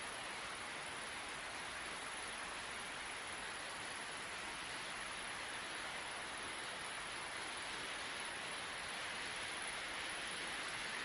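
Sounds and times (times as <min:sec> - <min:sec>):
steady wind hiss: 0:00.0 - 0:11.0.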